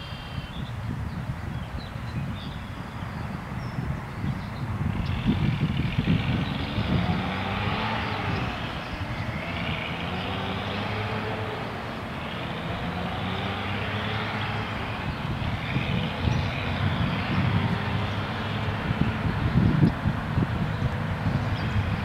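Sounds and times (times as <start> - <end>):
motor engine droning: 2.2 - 22.0.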